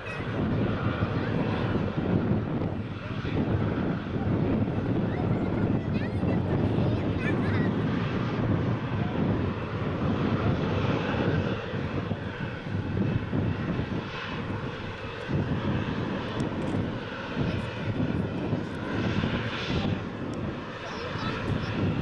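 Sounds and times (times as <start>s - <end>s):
jet engines at high power: 0.0s - 22.0s.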